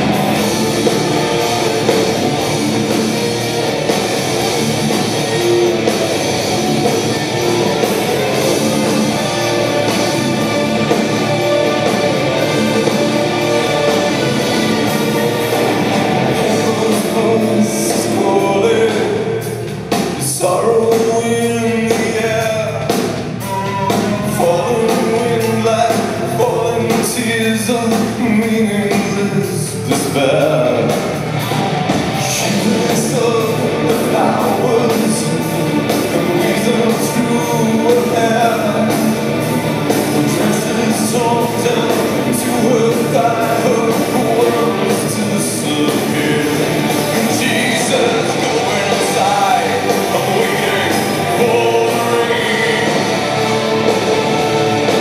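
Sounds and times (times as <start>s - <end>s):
rock band playing: 0.0s - 55.0s
man singing: 6.8s - 31.2s, 32.2s - 54.0s.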